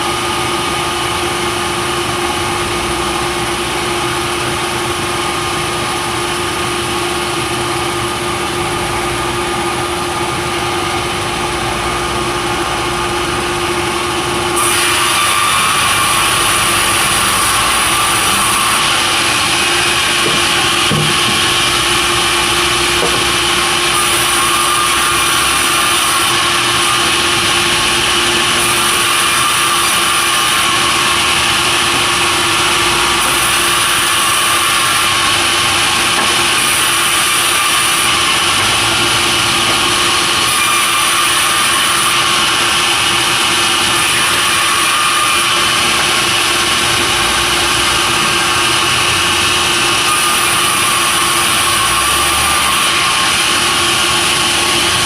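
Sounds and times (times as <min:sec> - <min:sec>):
saw cutting timber: 0:00.0 - 0:55.0.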